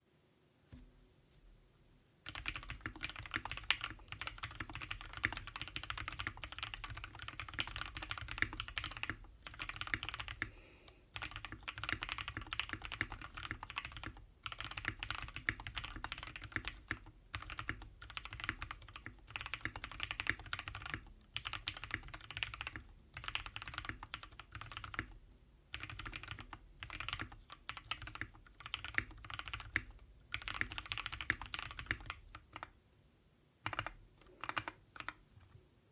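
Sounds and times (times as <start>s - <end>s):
fast typing on mechanical keyboard: 2.3s - 10.5s, 11.2s - 32.8s, 33.6s - 35.2s.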